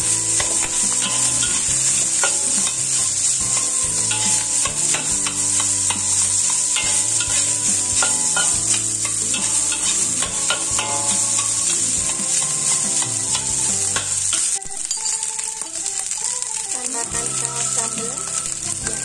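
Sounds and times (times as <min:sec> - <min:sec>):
metal spatula scraping wok: 0:00.0 - 0:15.4
frying oil sizzling: 0:00.0 - 0:19.0.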